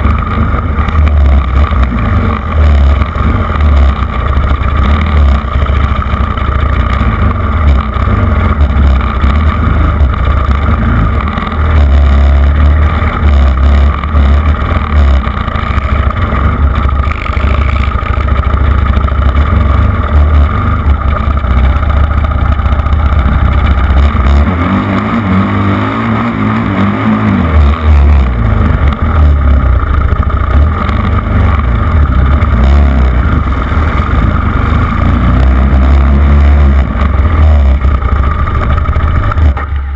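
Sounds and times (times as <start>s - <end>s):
quad bike engine rumbling: 0.0s - 39.9s.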